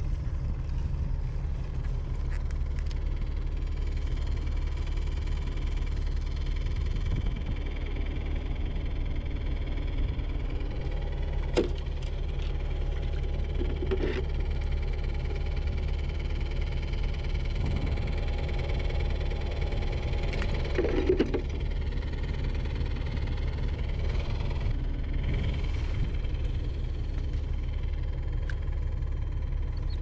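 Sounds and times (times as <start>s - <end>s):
low rumble: 0.0s - 30.0s
mechanical hum: 0.0s - 30.0s.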